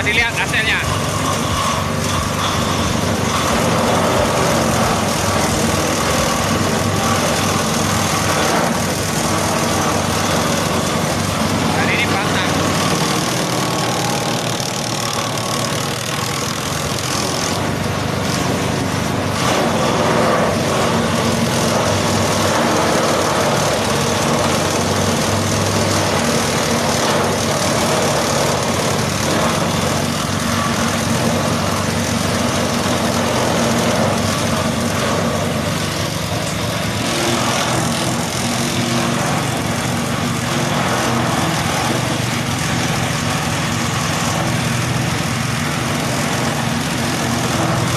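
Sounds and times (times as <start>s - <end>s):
chopper cutting grass stalks: 0.0s - 47.9s
small engine running under load: 0.0s - 47.9s.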